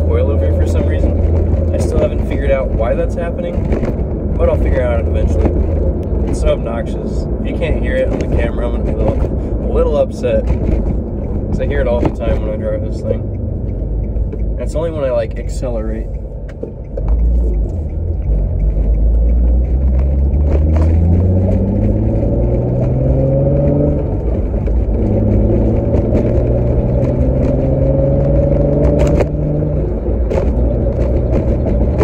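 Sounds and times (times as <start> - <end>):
car engine accelerating through gears: 0.0 - 32.0.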